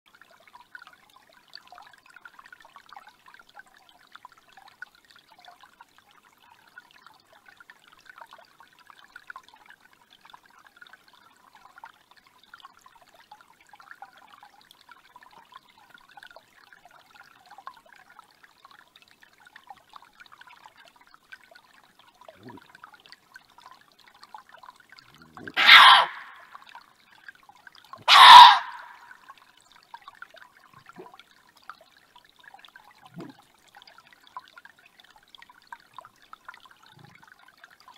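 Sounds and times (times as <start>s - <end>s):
faint creek water trickling: 0.1s - 37.9s.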